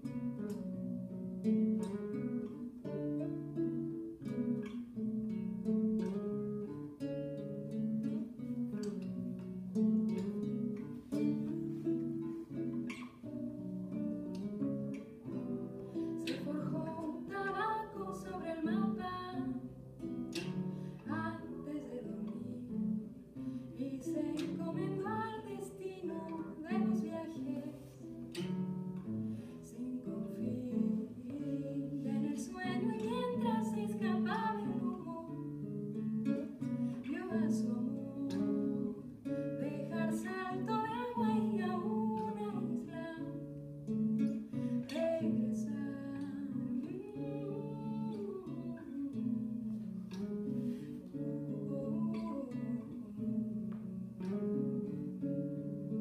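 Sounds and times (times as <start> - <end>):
woman singing: 0.0 - 5.2, 7.4 - 56.0
acoustic guitar plucking: 0.0 - 56.0.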